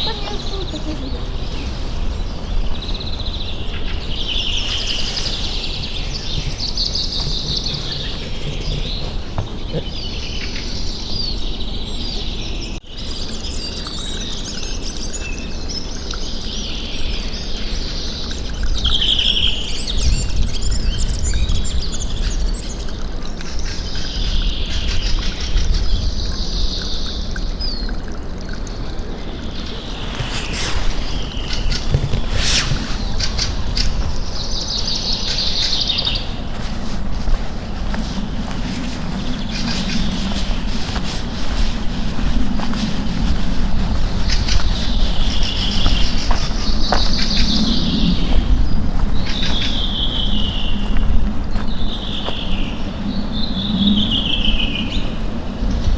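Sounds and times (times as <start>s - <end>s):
songbirds singing and chirping: 0.0s - 55.9s.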